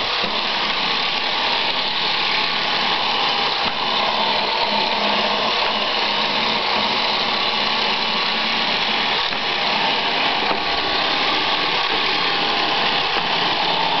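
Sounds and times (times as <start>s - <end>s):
robot vacuum motor and brushes whirring: 0.0s - 14.0s.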